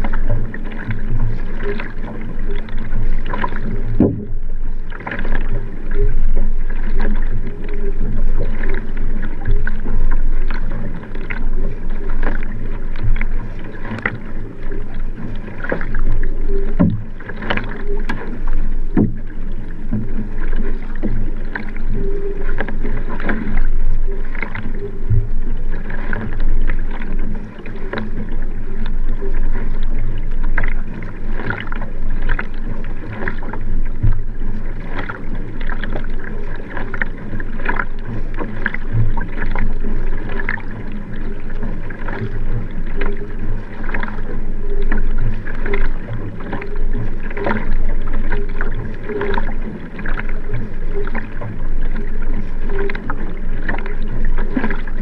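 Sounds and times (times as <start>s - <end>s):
paddle splashes: 0.0s - 55.0s
water rushing along kayak hull: 0.0s - 55.0s.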